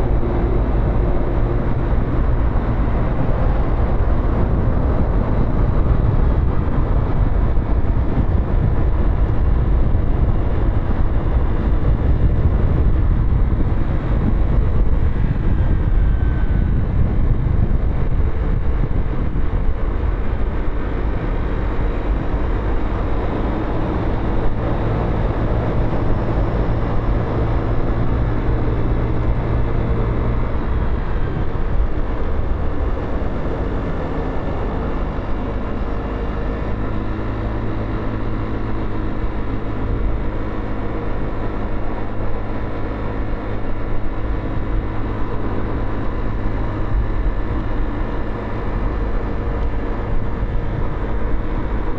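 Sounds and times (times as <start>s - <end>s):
motorcycle engine running: 0.0s - 51.9s
wind and road noise: 0.0s - 51.9s.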